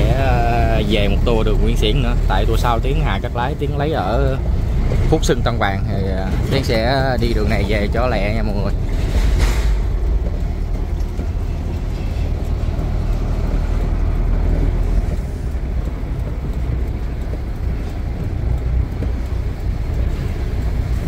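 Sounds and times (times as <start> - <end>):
diesel engine rumble: 0.0 - 21.0
road noise: 0.0 - 21.0.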